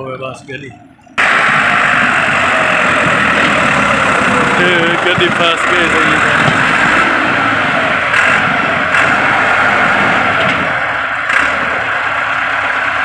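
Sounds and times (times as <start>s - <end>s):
diesel truck engine under load: 0.0s - 13.0s.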